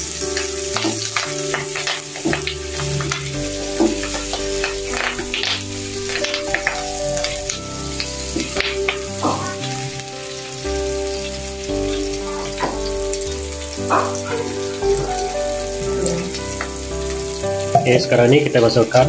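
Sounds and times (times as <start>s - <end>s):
food sizzling in hot oil: 0.0s - 19.0s
oil popping: 0.0s - 19.0s.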